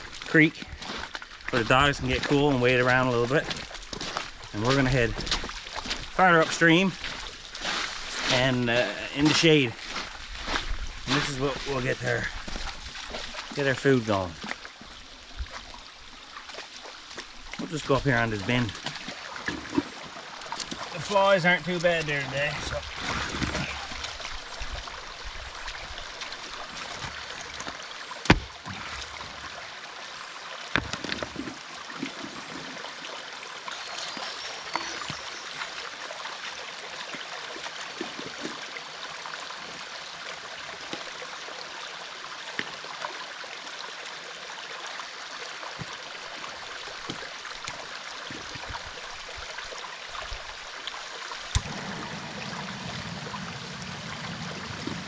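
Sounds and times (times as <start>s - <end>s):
creek water flowing: 0.0s - 55.0s.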